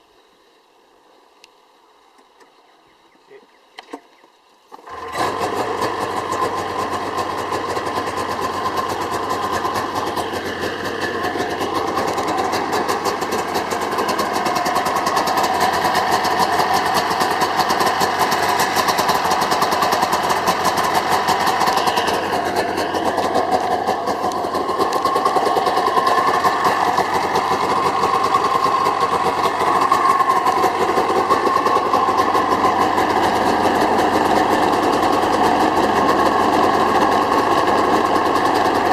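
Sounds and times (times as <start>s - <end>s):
snowmobile engine idling: 4.9s - 38.9s.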